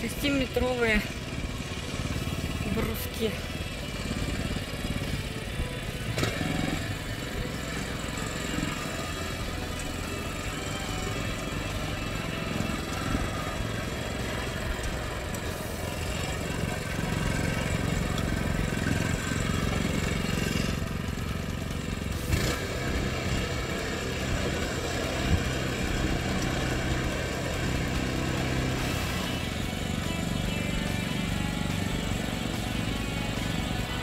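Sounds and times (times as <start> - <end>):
small tractor engine running: 0.0 - 34.0.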